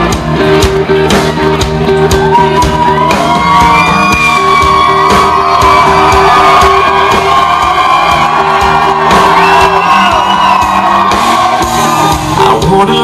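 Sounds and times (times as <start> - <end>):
bass guitar: 0.0 - 13.0
drum beat: 0.0 - 13.0
electric guitar: 0.0 - 13.0
audience shouting: 2.0 - 12.5.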